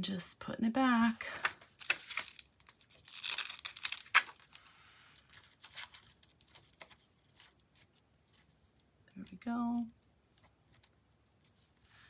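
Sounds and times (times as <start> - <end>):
craft materials rustling: 1.3 - 12.0.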